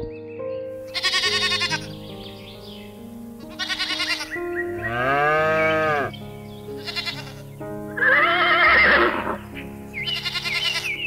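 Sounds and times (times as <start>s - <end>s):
background music: 0.0s - 11.0s
farm animals bleating: 0.9s - 2.4s, 3.4s - 11.0s.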